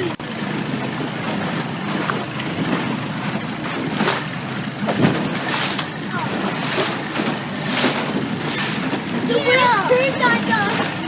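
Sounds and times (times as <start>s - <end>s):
motorboat engine running: 0.0s - 11.0s
water sloshing against hull: 0.0s - 11.0s.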